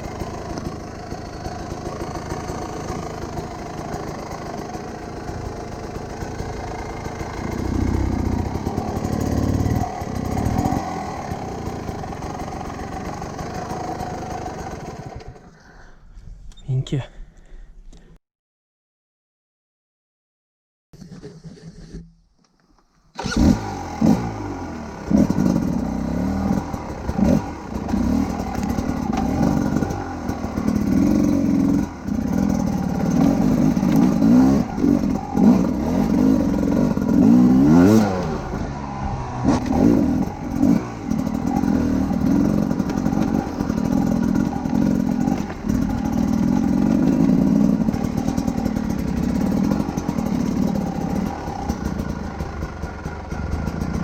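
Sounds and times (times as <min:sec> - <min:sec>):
motorcycle engine revving: 0:00.0 - 0:15.5, 0:23.2 - 0:54.0.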